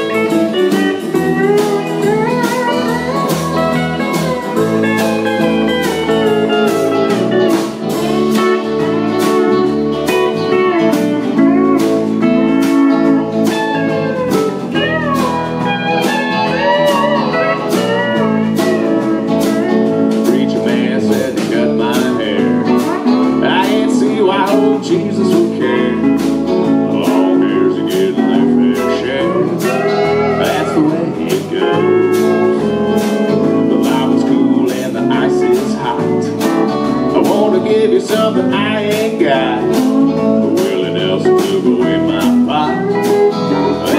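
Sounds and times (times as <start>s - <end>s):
electric bass: 0.0s - 43.9s
electric guitar: 0.0s - 43.9s
pedal steel guitar gliding: 0.0s - 43.9s
steady drum beat: 0.0s - 43.9s.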